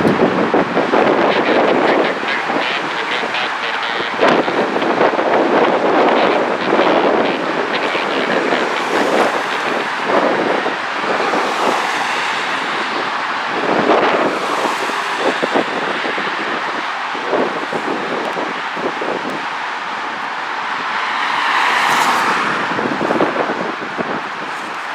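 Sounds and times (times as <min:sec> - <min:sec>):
wind buffeting microphone: 0:00.0 - 0:21.0, 0:22.1 - 0:24.8.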